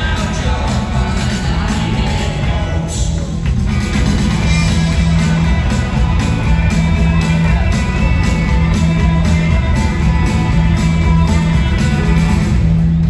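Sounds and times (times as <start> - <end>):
live rock band playing: 0.0 - 13.0
steady drum beat: 0.0 - 13.0
strummed guitar: 0.0 - 13.0.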